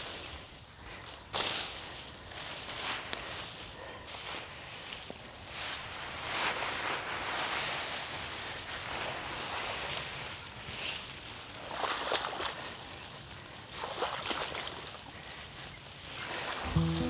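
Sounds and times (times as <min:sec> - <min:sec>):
footsteps through grass stalks: 0:00.0 - 0:17.0
tall grass rustling: 0:00.0 - 0:17.0.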